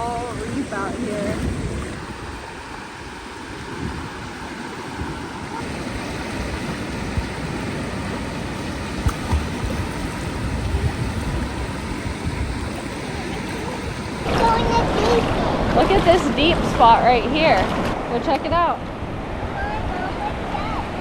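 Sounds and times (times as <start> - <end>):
surf rushing over reef: 0.0 - 21.0.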